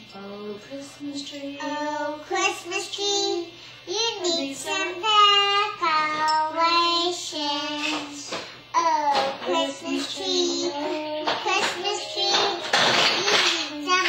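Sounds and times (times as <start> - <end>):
girl singing in a high voice: 0.7 - 14.0.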